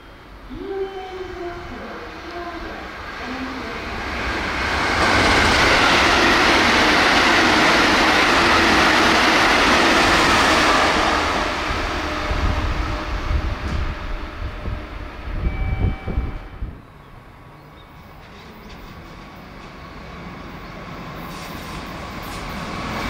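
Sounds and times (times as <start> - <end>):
train rushing past: 0.0 - 23.0.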